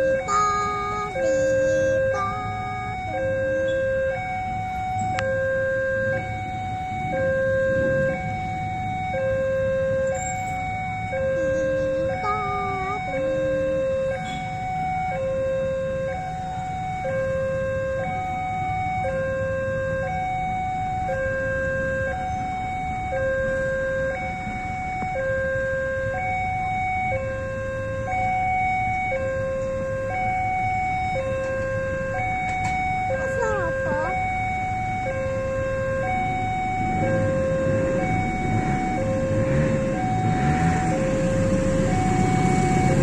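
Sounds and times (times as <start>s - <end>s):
level crossing two-tone alarm: 0.0s - 43.0s.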